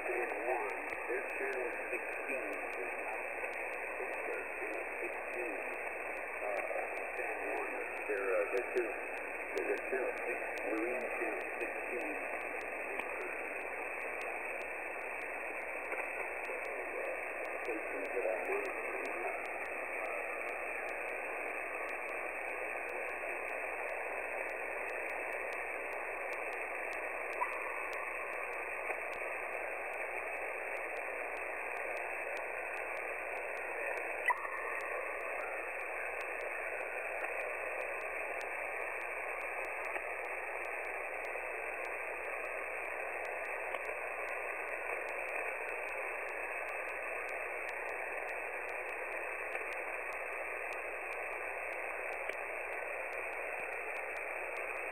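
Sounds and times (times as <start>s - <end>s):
faint radio crackles: 0.0s - 54.9s
radio static hiss: 0.0s - 54.9s.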